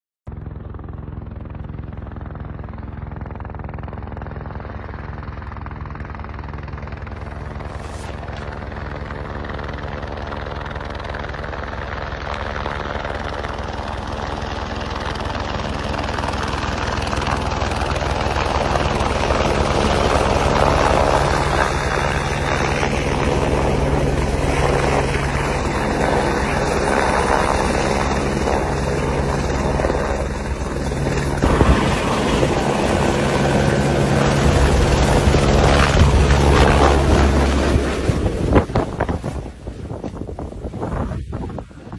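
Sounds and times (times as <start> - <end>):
helicopter flying: 0.3 - 41.9.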